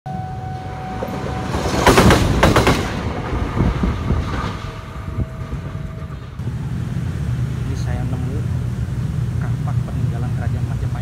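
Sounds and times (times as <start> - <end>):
low rumble: 1.8 - 11.0.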